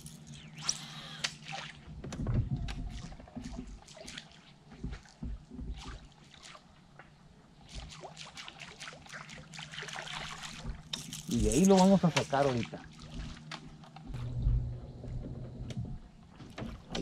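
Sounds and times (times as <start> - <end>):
water sloshing and splashing: 0.0 - 14.5, 15.1 - 17.0.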